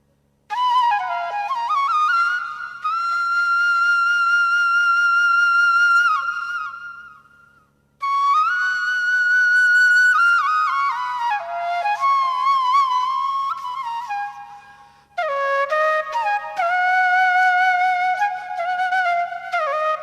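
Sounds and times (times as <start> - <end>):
solo flute melody: 0.5 - 20.0.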